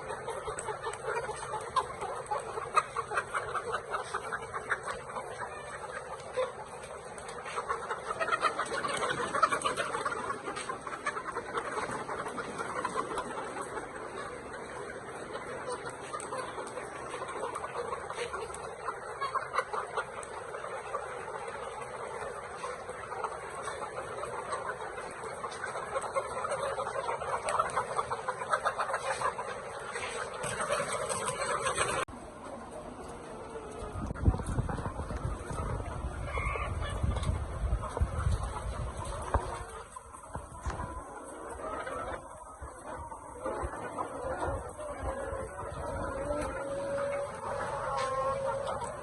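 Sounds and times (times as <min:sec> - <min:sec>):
chickens clucking: 0:00.0 - 0:49.0.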